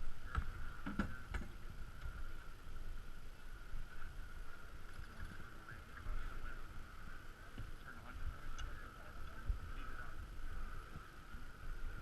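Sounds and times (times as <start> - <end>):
water rushing along hull: 0.0 - 12.0
wind on microphone: 0.0 - 12.0.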